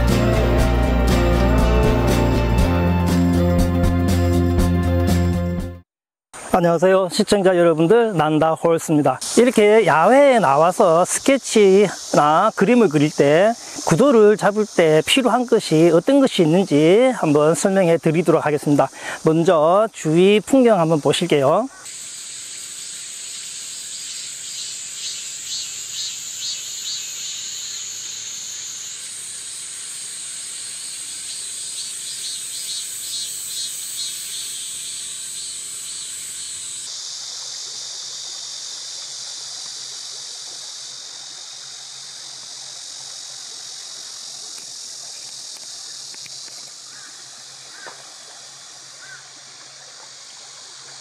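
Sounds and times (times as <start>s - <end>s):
high-pitched insect chorus: 0.0s - 3.3s, 6.4s - 51.0s.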